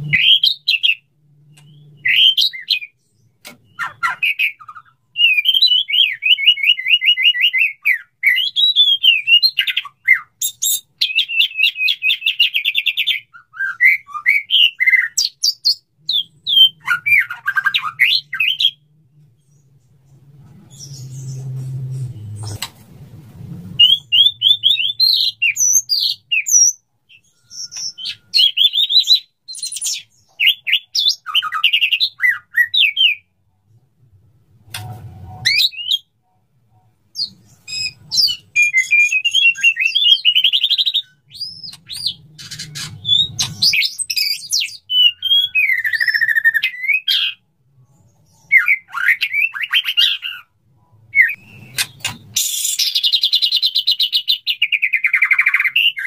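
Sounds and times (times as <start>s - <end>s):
bird singing varied phrases: 0.0s - 19.8s, 23.8s - 33.4s, 35.4s - 56.0s.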